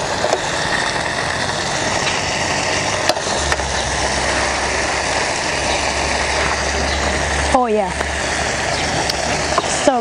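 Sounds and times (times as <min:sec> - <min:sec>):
gas burner hissing: 0:00.0 - 0:10.0
low hum: 0:00.0 - 0:10.0.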